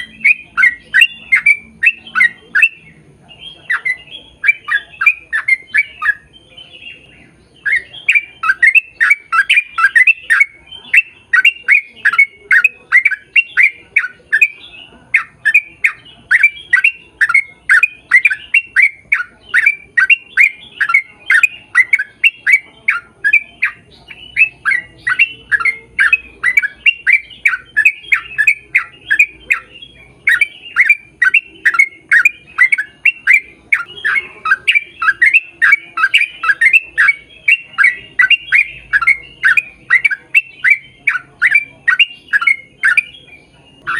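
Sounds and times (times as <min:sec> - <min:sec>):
bird calling: 0:00.0 - 0:43.9.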